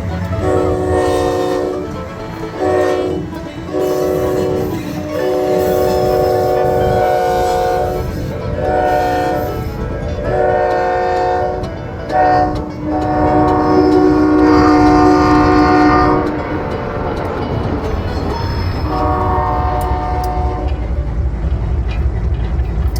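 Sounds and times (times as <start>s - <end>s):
locomotive air horn blasts: 0.0s - 22.0s
engine rumble: 0.0s - 22.9s.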